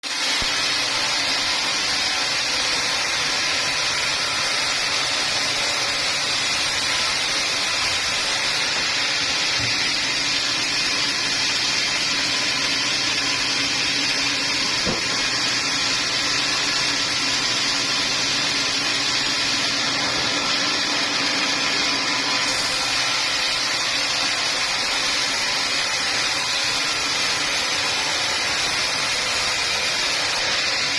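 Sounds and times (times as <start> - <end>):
sawmill machinery running: 0.0 - 30.9.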